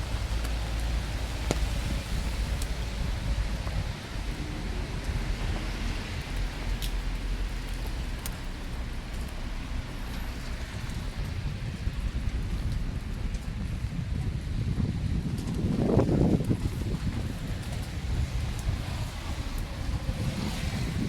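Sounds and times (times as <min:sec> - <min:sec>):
heavy low rumble: 0:00.0 - 0:21.0
steady rain falling: 0:00.0 - 0:21.0.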